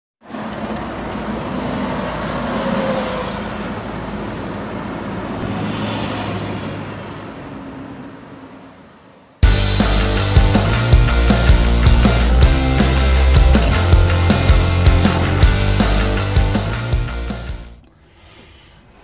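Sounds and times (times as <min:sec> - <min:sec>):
rushing rumbling noise: 0:00.6 - 0:17.6.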